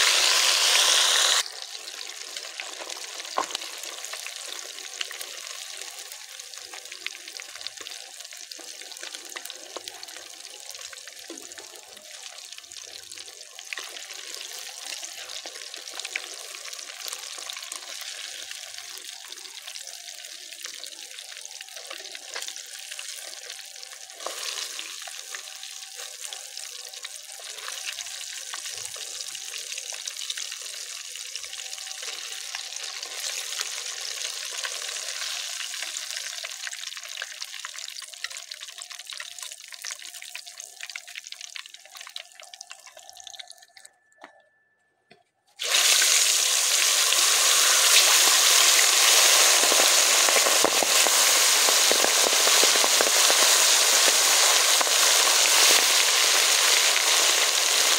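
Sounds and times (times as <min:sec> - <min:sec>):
fish deep-frying in oil: 0:00.0 - 0:43.9, 0:45.6 - 0:57.9.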